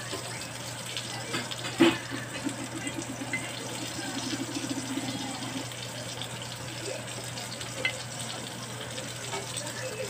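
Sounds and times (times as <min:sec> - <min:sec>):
onions sizzling in a skillet: 0:00.0 - 0:10.0.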